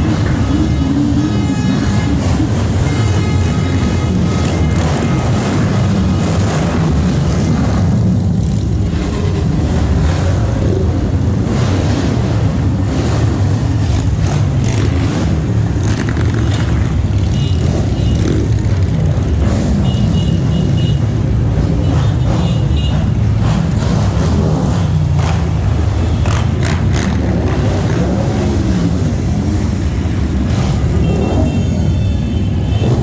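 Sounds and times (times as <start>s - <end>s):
motorcycles riding past: 0.0s - 33.0s.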